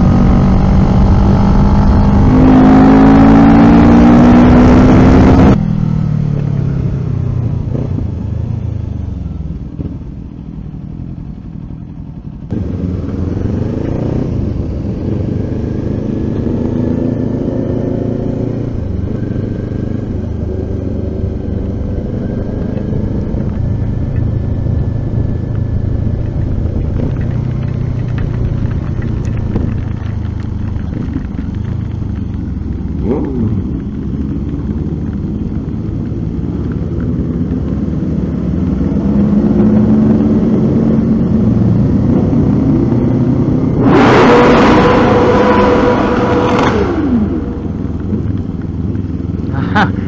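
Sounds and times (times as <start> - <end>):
wind noise: 0.0 - 10.2, 12.5 - 50.0
motorcycle engine: 0.0 - 50.0
road noise on wet road: 0.0 - 50.0.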